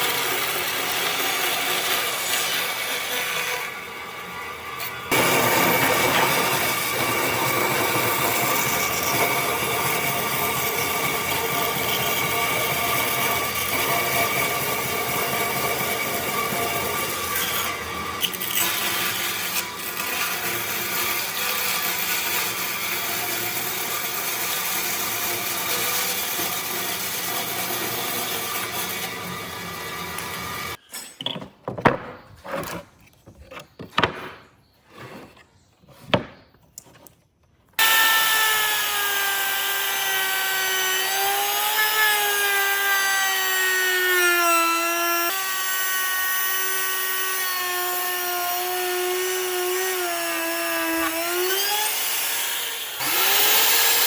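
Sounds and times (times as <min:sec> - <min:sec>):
power tool whining on wood: 0:00.0 - 0:30.8, 0:37.8 - 0:54.0.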